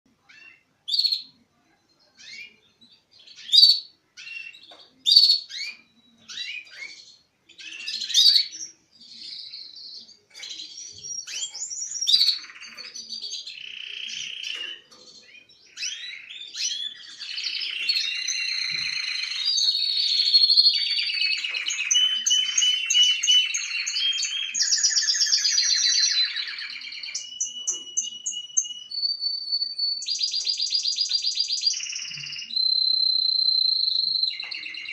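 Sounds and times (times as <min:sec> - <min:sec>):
canaries singing: 0:00.1 - 0:34.9.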